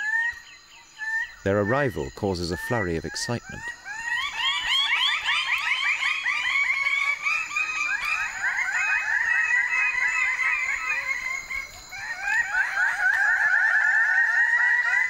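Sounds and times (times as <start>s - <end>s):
chorus of bird calls: 0.0s - 15.0s.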